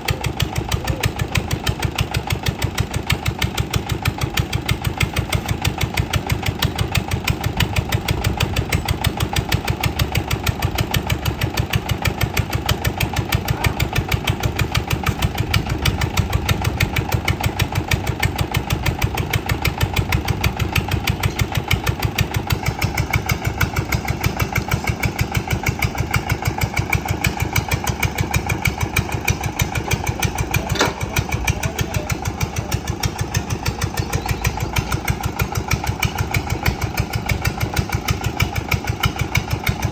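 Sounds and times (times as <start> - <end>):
engine running with pulsing beat: 0.0 - 39.9.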